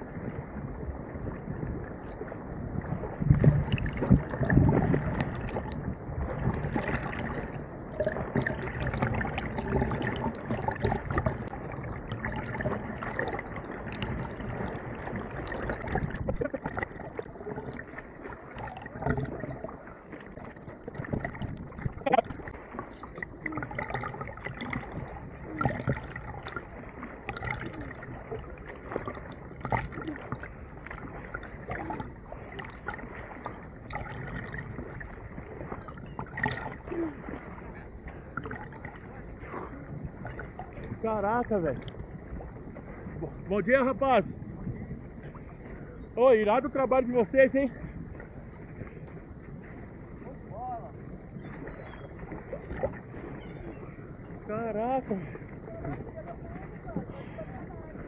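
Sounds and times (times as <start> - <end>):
sea water sloshing and splashing: 0.0 - 58.0.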